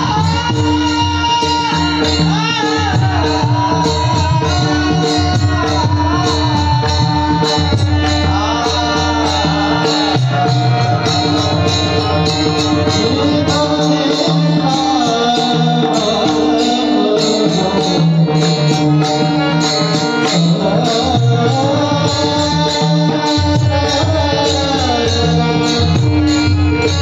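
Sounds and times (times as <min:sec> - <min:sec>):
man singing devotional song: 0:00.0 - 0:27.0.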